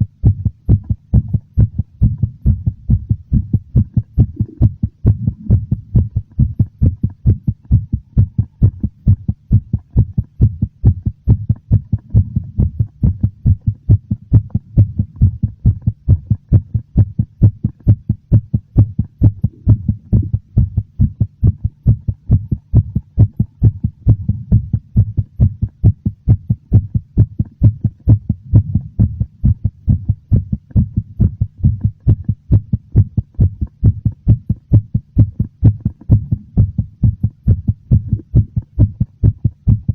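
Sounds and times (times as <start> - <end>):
heartbeat: 0.0 - 39.9.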